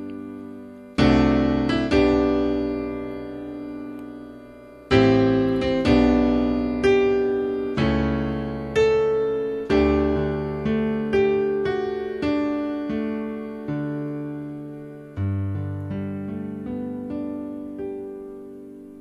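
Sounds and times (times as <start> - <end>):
digital piano chords: 0.0 - 19.0.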